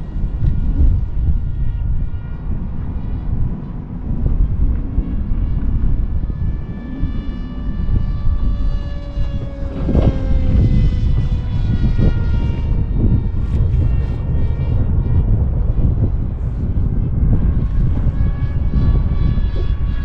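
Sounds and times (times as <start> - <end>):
model plane motor whining: 0.0 - 20.0
wind buffeting microphone: 0.0 - 20.0.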